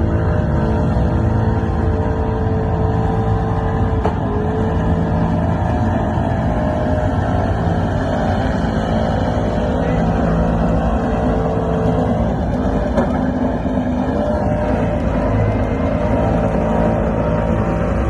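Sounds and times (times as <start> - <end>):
vehicle engine at high revs: 0.0 - 18.0.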